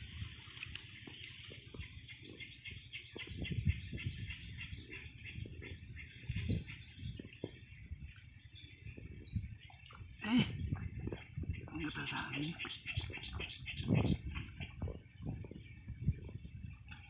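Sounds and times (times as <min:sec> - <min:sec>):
bird chirping: 0:01.1 - 0:09.8, 0:11.4 - 0:16.5.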